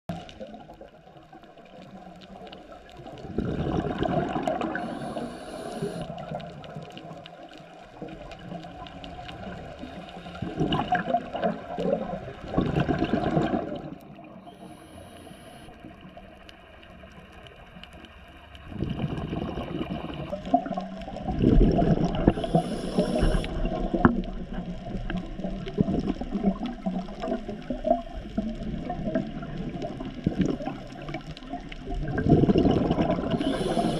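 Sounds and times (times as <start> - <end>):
muffled underwater hiss: 0.1 - 33.9
underwater bubbles gurgling: 0.1 - 33.9.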